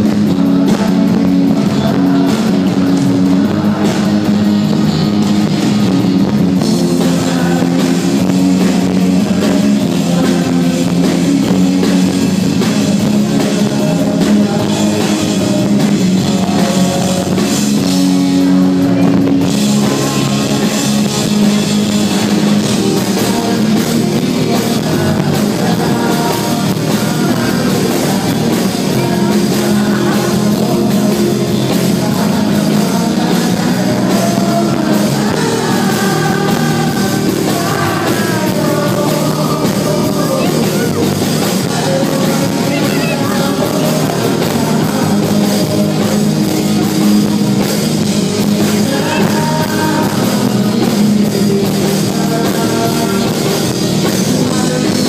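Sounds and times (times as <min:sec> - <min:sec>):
live rock band: 0:00.0 - 0:55.0.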